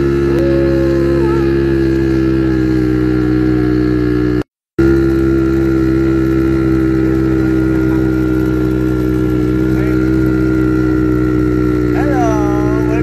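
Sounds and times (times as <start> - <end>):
quad bike engine droning: 0.0 - 13.0.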